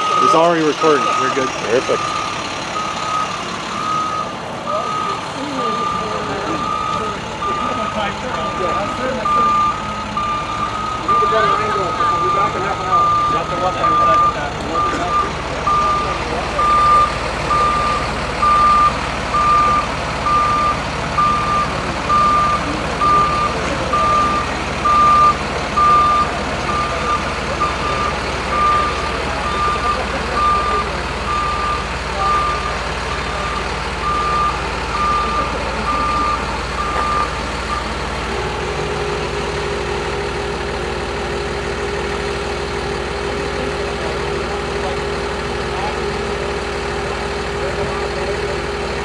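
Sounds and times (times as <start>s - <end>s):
truck backup alarm beeping: 0.0s - 49.0s
truck engine running: 0.0s - 49.0s.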